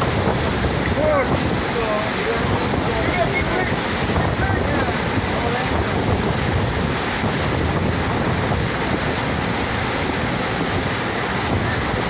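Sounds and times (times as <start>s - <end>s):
water rushing over wave surface: 0.0s - 12.0s.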